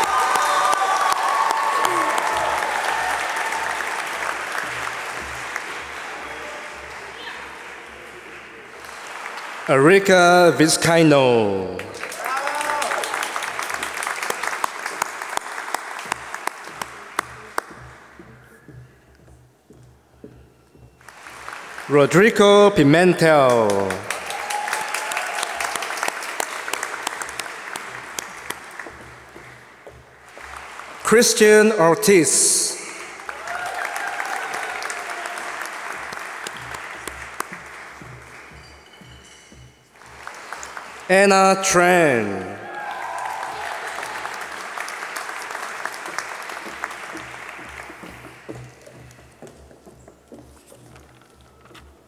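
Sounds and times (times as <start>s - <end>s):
audience applauding: 0.0s - 19.8s, 21.0s - 51.9s.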